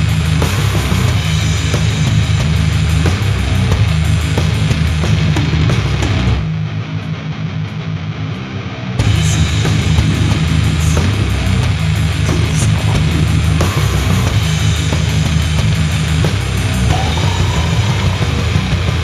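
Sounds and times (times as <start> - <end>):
death metal band playing: 0.0 - 19.0.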